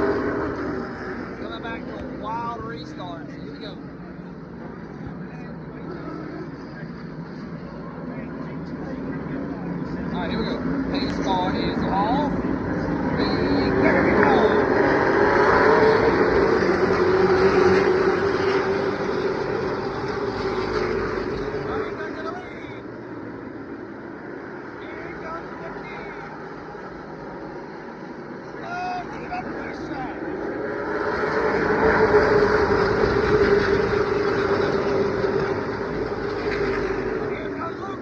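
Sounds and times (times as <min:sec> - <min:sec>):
race car engines accelerating: 0:00.0 - 0:38.0.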